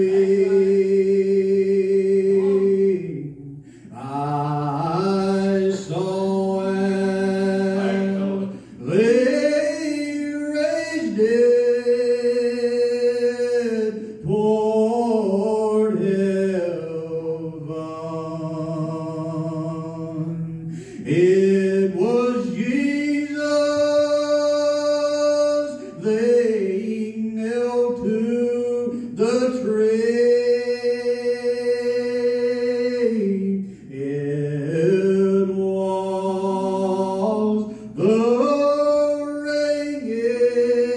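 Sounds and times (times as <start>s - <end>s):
man singing a cappella: 0.0s - 40.9s.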